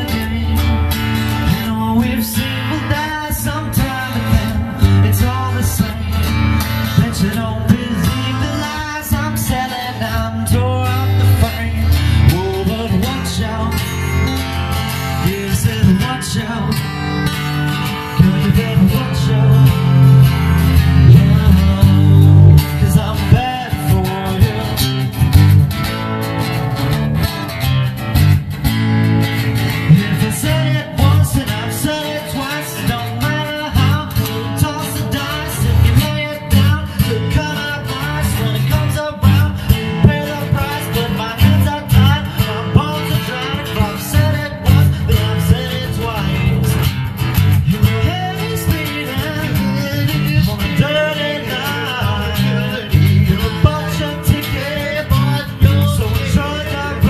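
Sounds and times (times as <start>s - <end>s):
person singing: 0.0s - 14.4s, 15.0s - 25.1s, 29.9s - 46.9s, 47.6s - 57.0s
country blues guitars: 0.0s - 57.0s.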